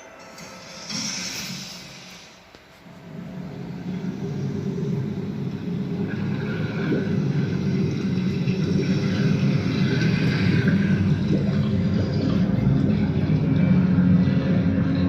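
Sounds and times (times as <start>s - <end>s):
low rumble from speakers: 2.9s - 15.0s.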